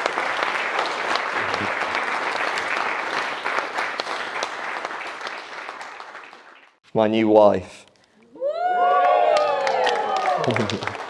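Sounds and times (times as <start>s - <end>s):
crowd applauding: 0.0s - 6.8s, 8.5s - 11.0s.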